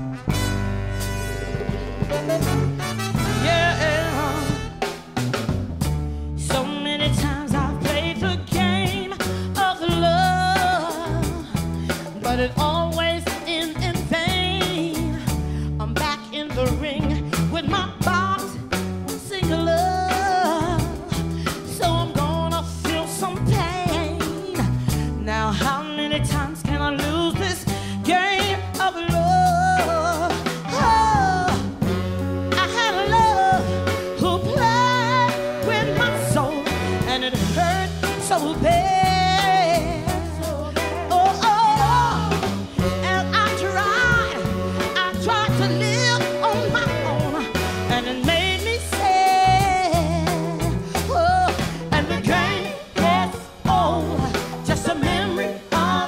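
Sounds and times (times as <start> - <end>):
live soul band: 0.0 - 56.0
woman singing: 3.2 - 4.8, 6.4 - 56.0.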